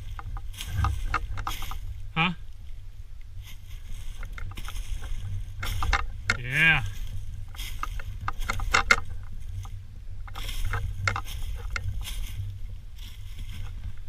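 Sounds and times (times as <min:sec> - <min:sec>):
footsteps crunching dry leaves: 0:00.0 - 0:14.0
steady low rumble: 0:00.0 - 0:14.0.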